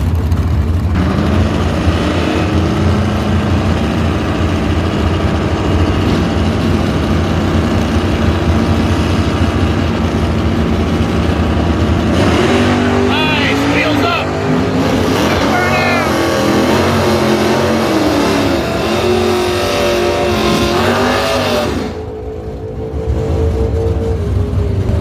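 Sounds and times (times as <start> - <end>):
drag car engines rumbling: 0.0 - 25.0.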